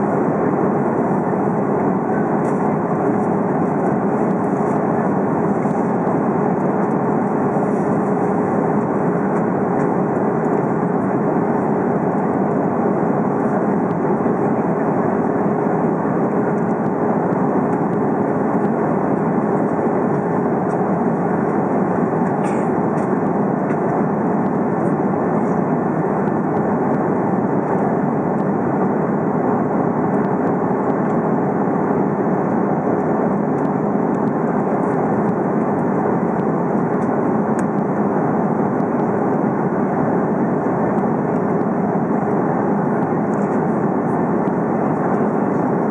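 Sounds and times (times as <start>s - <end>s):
airliner cabin engine rush: 0.0s - 45.9s
steady hum: 0.0s - 45.9s.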